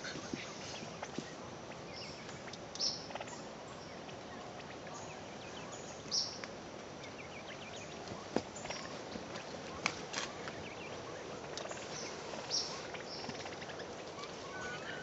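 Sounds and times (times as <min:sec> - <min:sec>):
birds rustling in leaf litter: 0:00.0 - 0:15.0
steady hiss: 0:00.0 - 0:15.0.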